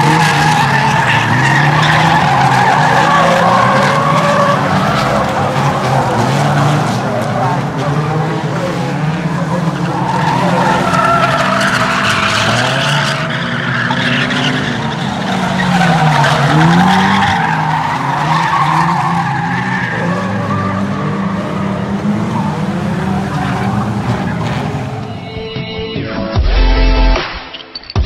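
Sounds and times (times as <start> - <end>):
race car engines revving: 0.0 - 25.4.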